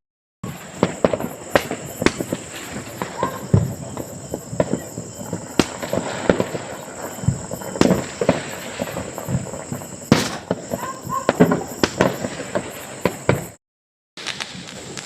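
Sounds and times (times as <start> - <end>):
distant firecrackers banging: 0.4 - 13.6, 14.2 - 15.0.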